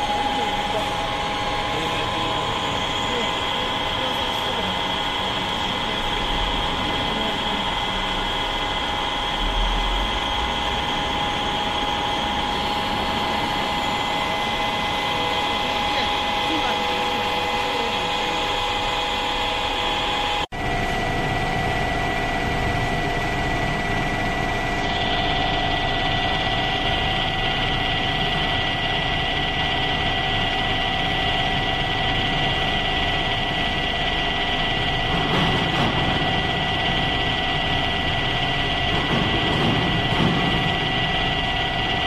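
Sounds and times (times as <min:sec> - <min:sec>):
lathe running with gear whine: 0:00.0 - 0:42.0.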